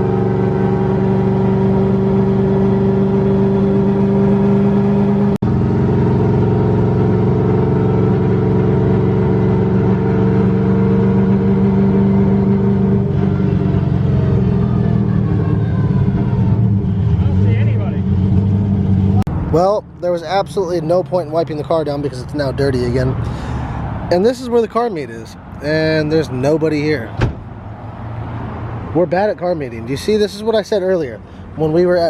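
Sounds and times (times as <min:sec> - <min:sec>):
car engine cruising: 0:00.0 - 0:32.0.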